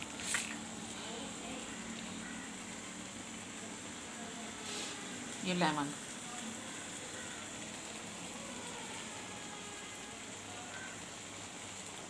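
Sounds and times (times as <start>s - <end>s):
pan simmering with steady hiss: 0.0s - 12.0s.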